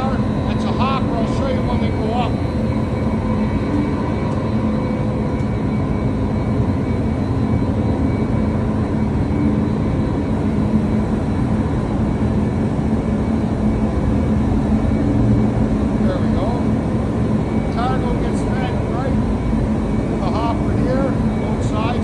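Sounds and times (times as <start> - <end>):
conveyor belts running over rollers: 0.0 - 22.0
machine hum: 0.0 - 22.0.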